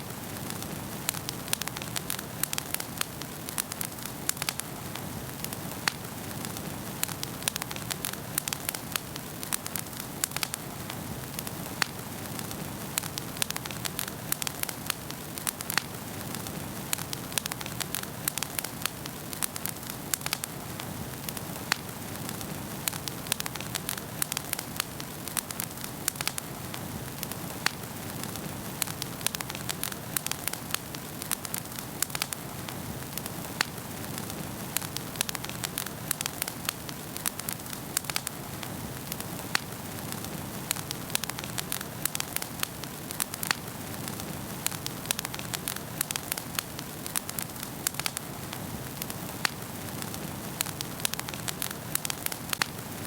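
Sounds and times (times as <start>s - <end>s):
low rush of flames: 0.0s - 53.0s
wood fire crackling and popping: 0.0s - 53.0s.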